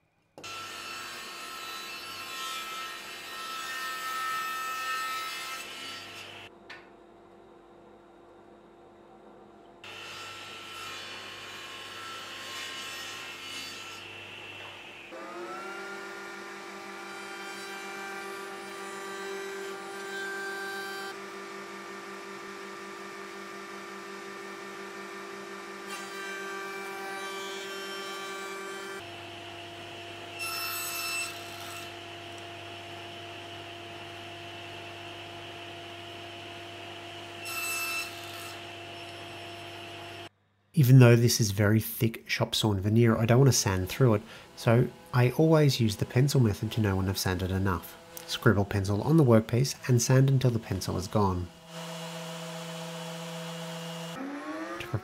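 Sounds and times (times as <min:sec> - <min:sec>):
table saw cutting wood: 0:00.4 - 0:06.5, 0:09.8 - 0:40.3, 0:42.7 - 0:55.0.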